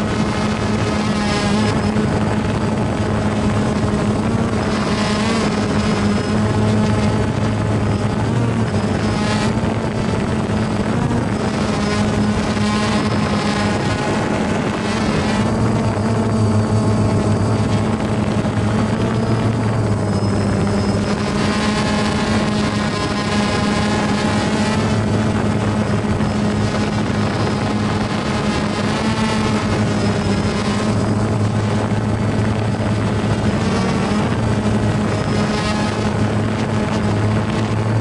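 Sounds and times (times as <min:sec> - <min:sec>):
drone propellers buzzing: 0:00.0 - 0:38.0.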